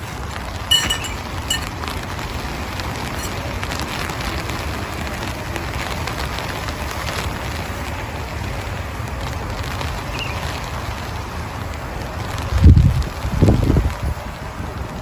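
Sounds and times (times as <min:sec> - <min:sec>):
heavy rain falling: 0:00.0 - 0:15.0
low rumble of wind: 0:00.0 - 0:15.0.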